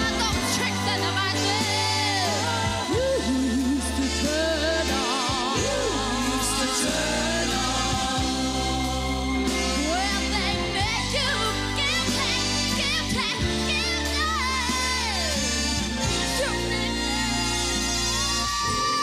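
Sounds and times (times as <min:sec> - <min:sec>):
women singing with band: 0:00.0 - 0:15.5
bass line: 0:00.0 - 0:19.0.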